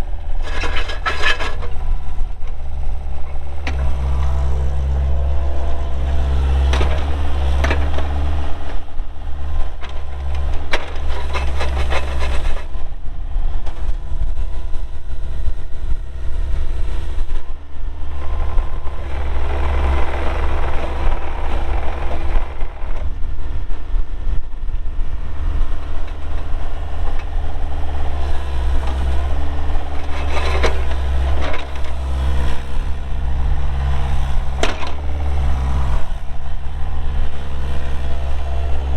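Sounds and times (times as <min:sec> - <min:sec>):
mini excavator diesel engine: 0:00.0 - 0:38.9.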